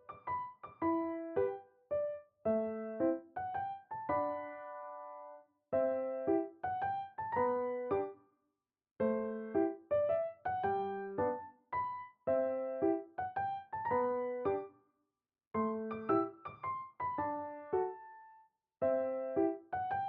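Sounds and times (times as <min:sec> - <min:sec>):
gentle piano music: 0:00.0 - 0:08.2, 0:09.0 - 0:14.8, 0:15.6 - 0:20.0.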